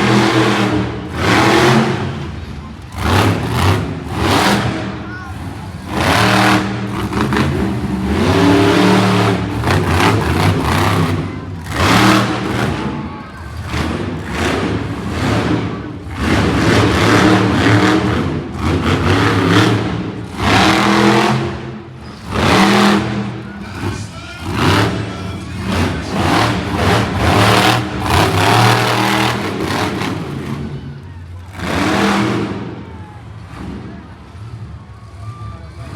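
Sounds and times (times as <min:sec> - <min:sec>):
truck engines revving: 0:00.0 - 0:35.9.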